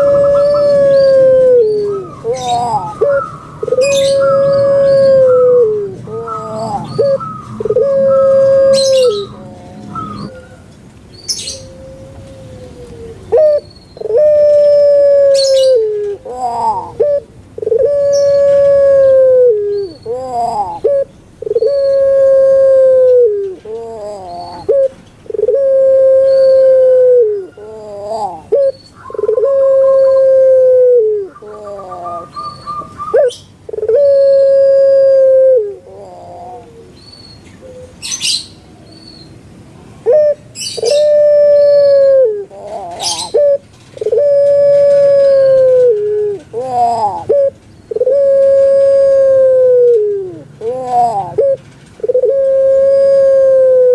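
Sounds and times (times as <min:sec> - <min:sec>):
dove cooing: 0:00.0 - 0:10.7, 0:11.3 - 0:38.5, 0:40.0 - 0:53.9.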